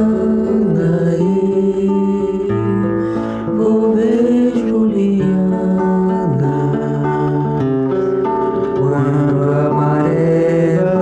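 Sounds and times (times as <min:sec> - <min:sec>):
acoustic guitar chords: 0:00.0 - 0:11.0
person singing long notes: 0:00.0 - 0:11.0.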